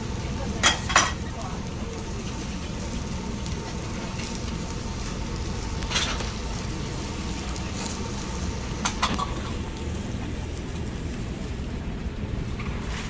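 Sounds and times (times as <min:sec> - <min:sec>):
skewers sizzling on a grill: 0:00.0 - 0:13.0.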